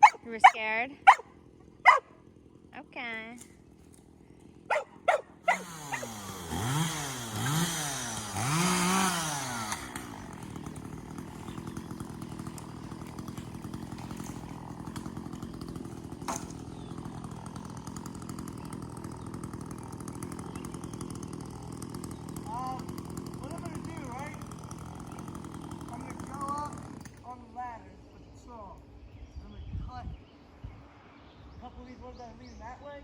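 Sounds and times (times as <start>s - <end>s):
chainsaw revving and idling: 0.0s - 28.8s.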